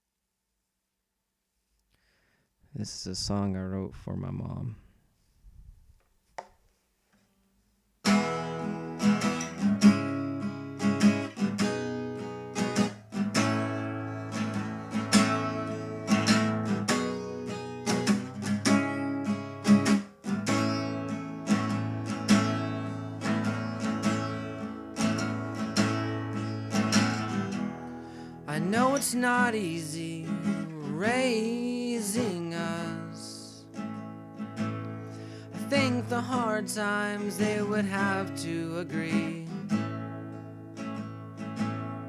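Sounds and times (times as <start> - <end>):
acoustic guitar chords: 8.0 - 42.0.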